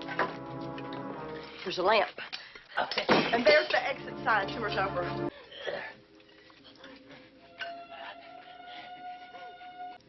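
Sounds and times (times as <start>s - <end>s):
quiet film score music: 0.0s - 2.0s, 3.4s - 10.0s.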